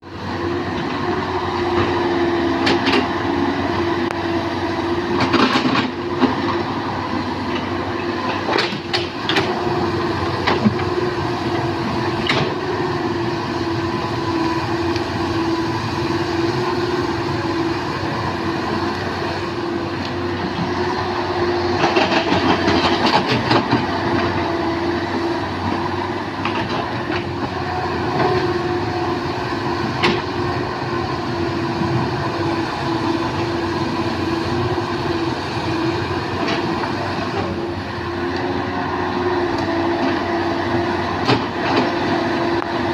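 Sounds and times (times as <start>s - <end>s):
excavator diesel engine whining: 0.0s - 42.9s.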